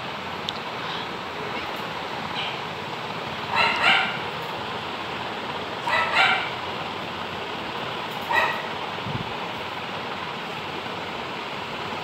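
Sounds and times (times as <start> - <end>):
steady hiss: 0.0 - 3.6, 4.2 - 5.9, 6.5 - 12.0.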